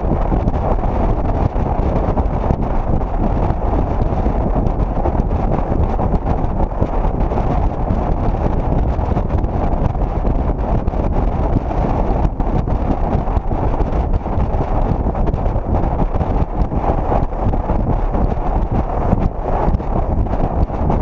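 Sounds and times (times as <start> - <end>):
car road and running noise: 0.0 - 21.0
wind rumble on microphone: 0.0 - 21.0.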